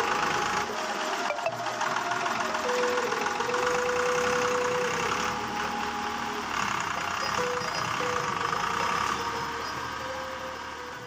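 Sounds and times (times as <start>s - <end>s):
tractor diesel engine driving past: 0.0s - 11.0s.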